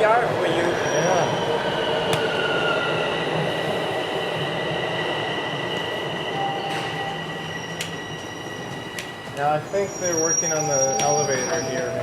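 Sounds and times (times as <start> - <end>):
subway train rumbling: 0.0 - 12.0
train high whines: 0.0 - 12.0.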